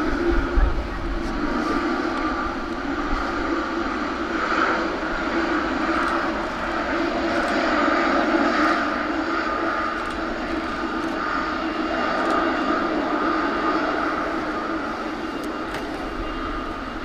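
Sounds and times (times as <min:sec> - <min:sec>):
jet engines on landing rollout: 0:00.0 - 0:17.0.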